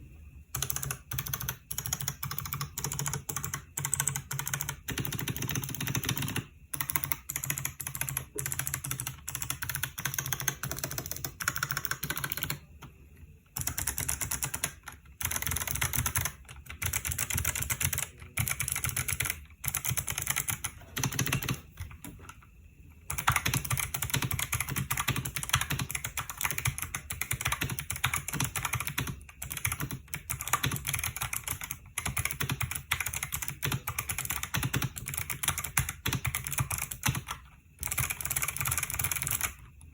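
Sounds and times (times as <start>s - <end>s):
clicky mechanical keyboard typing: 0.5s - 12.9s, 13.6s - 22.5s, 23.1s - 39.9s.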